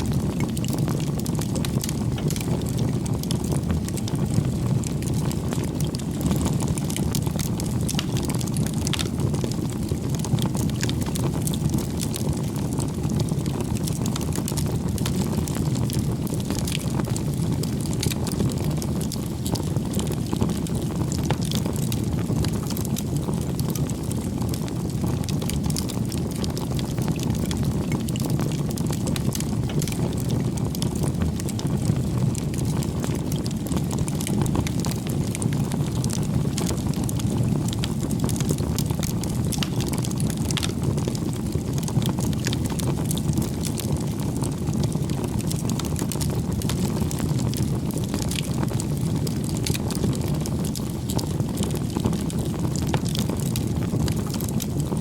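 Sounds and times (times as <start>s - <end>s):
burning wood crackling and popping: 0.0s - 55.0s
fire rushing: 0.1s - 55.0s.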